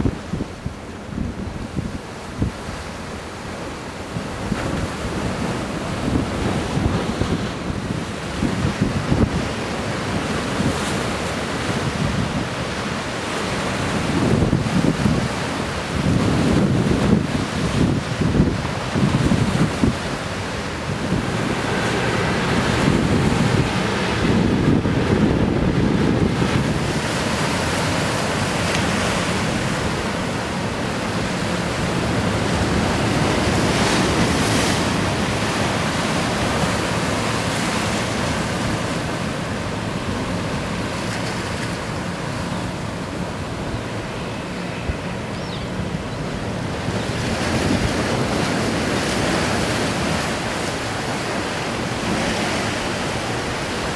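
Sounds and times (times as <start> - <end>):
surf washing against breakwater: 0.0 - 53.9
wind buffeting microphone: 4.0 - 44.2, 44.8 - 53.9.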